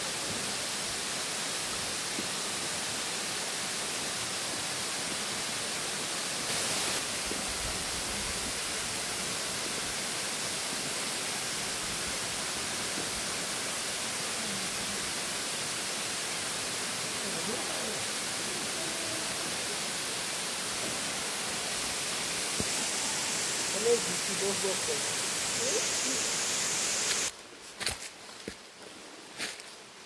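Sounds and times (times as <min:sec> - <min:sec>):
waterfall rushing into pool: 0:00.0 - 0:27.3.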